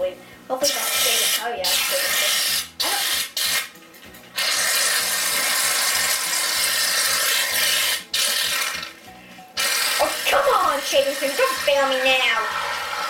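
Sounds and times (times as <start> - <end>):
aerosol can spraying foam: 0.6 - 3.7, 4.4 - 8.9, 9.6 - 13.0.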